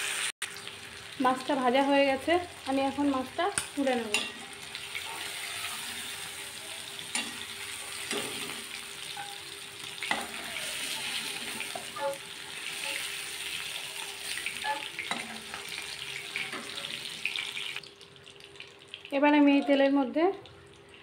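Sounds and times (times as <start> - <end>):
prawns sizzling in hot oil: 0.0 - 19.2.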